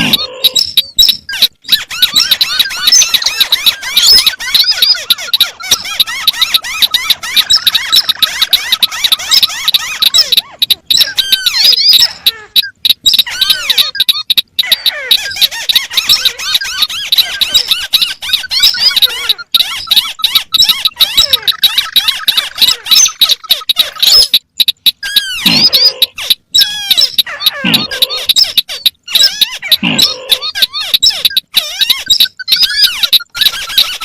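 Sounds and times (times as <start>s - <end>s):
crakes calling with squeaky notes: 0.0s - 34.0s.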